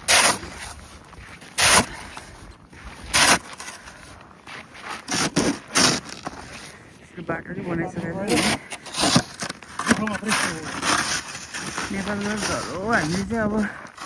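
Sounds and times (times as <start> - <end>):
snow shovel scraping and crunching: 0.0 - 14.0.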